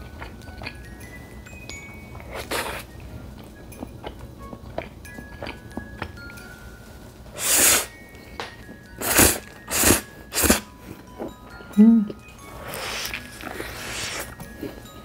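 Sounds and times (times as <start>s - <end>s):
biting and chewing food: 0.0s - 6.4s, 8.6s - 15.0s.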